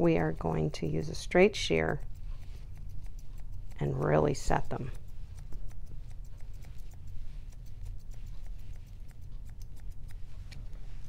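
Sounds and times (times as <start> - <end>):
grooming shears snipping hair: 0.0 - 11.0
low steady rumble: 0.0 - 11.0.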